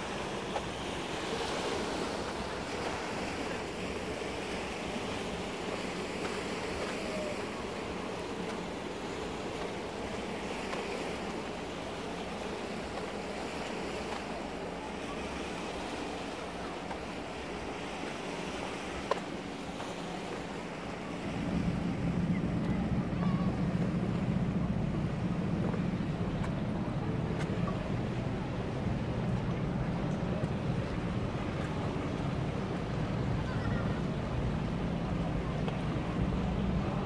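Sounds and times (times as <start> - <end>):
sea waves washing against shore: 0.0 - 37.0
wind: 0.0 - 37.0.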